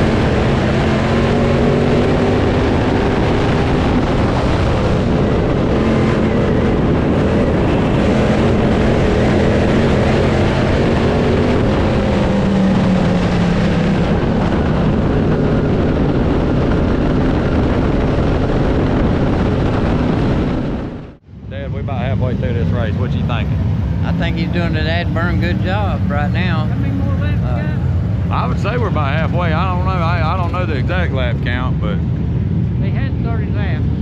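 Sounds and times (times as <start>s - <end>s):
race car engines running hard: 0.0s - 34.0s.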